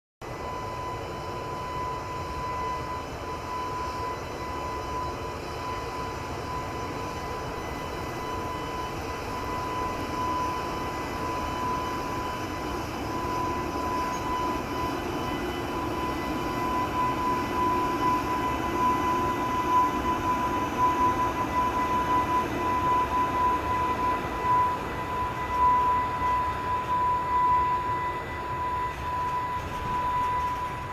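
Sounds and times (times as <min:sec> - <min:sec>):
electric locomotive whine: 0:00.2 - 0:30.9
train rumble: 0:00.4 - 0:30.9.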